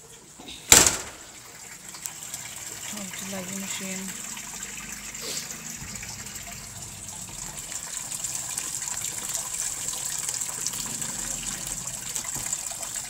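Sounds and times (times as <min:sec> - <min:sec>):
water gushing into washing machine: 0:00.0 - 0:13.0.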